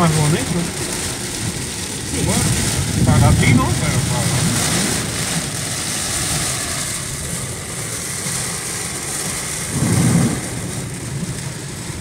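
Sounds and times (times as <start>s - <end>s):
low rumble: 0.0s - 12.0s
rain and wet road noise: 0.0s - 12.0s.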